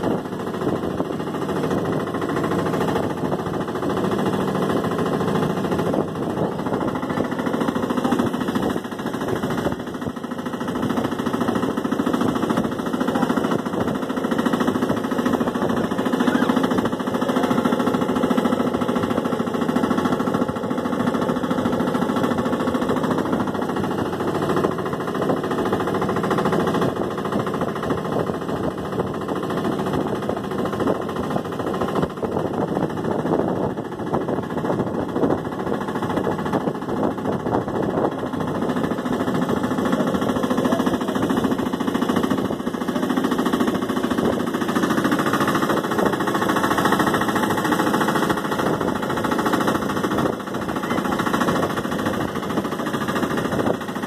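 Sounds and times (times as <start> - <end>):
boat engine pulsing drone: 0.0 - 54.0.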